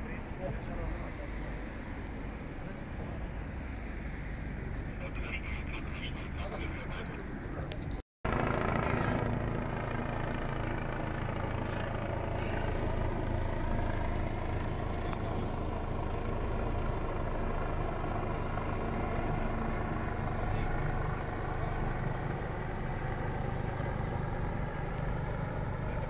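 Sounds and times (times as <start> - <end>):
steady engine drone: 0.0 - 26.0.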